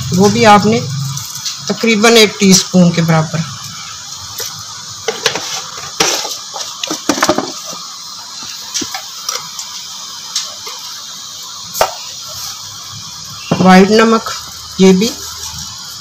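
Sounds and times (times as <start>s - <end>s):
chutney simmering with pops: 0.0s - 16.0s.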